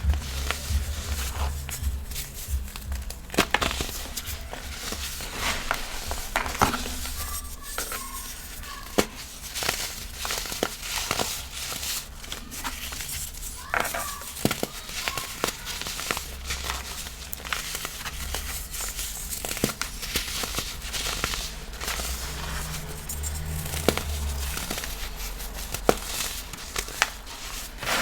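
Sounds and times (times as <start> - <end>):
chalk crunching and crackling: 0.0 - 28.0.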